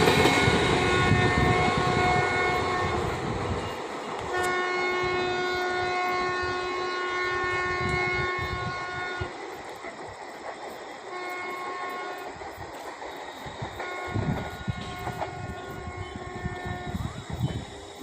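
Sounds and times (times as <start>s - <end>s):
train horn blasts: 0.0s - 9.4s, 11.1s - 12.4s, 13.8s - 17.7s
rumble of passing train: 0.0s - 18.0s.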